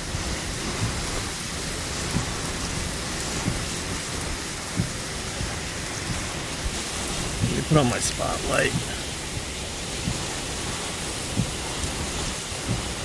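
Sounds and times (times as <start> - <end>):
heavy rain beating on truck: 0.0 - 13.0
low thumps: 0.2 - 13.0.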